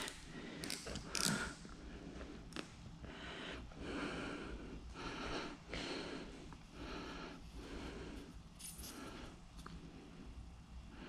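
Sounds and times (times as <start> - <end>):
person breathing heavily through nose: 0.0 - 11.0.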